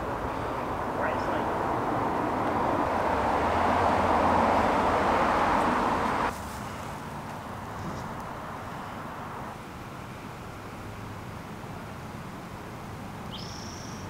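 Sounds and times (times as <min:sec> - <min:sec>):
faint outdoor hush: 0:00.0 - 0:14.0
road traffic noise: 0:00.0 - 0:14.0.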